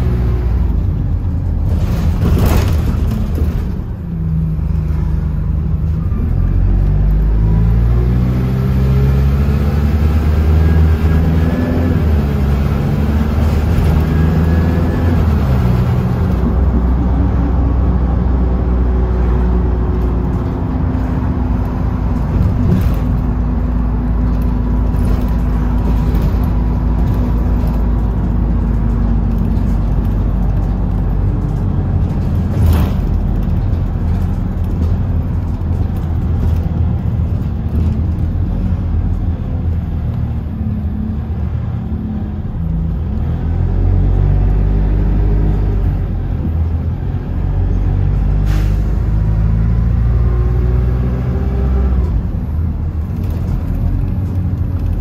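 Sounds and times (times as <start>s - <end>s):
diesel bus engine: 0.0s - 55.0s.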